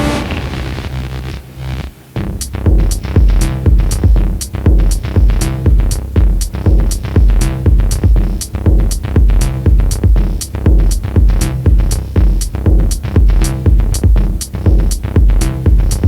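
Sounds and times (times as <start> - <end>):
electronic music: 0.0 - 16.0
sustained bass line: 0.0 - 16.0
heavy kick drum: 2.2 - 16.0
hi-hat ticks: 2.4 - 16.0.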